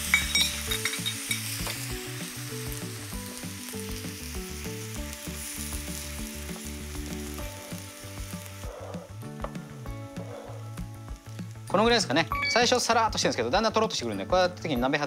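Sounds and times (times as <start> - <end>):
sauce sizzling and bubbling: 0.0 - 13.0.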